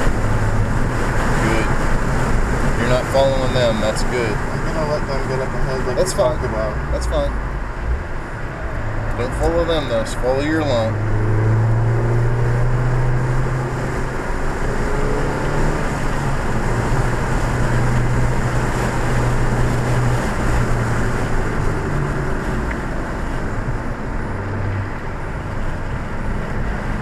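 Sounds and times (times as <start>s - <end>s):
car engine drone: 0.0s - 27.0s.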